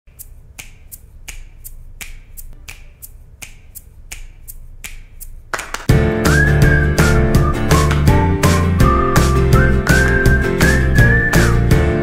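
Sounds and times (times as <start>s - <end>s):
rhythmic finger snaps: 0.1s - 12.0s.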